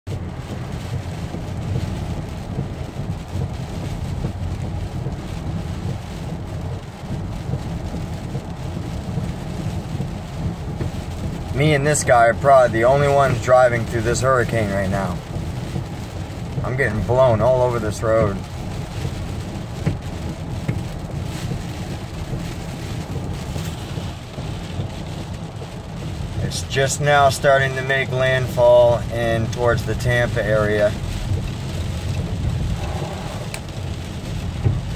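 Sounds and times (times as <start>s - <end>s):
heavy rain on car: 0.1s - 34.9s
strong wind on car: 0.1s - 34.9s.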